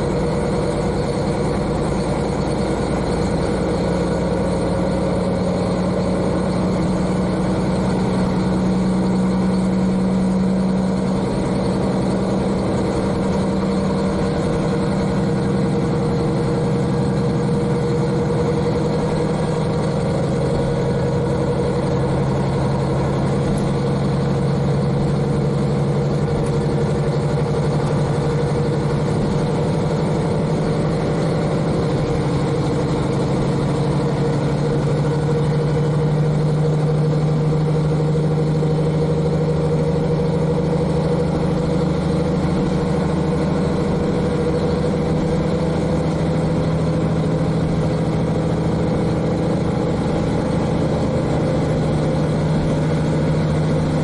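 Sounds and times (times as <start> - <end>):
diesel engine running: 0.0 - 54.0
train running noise: 0.0 - 54.0.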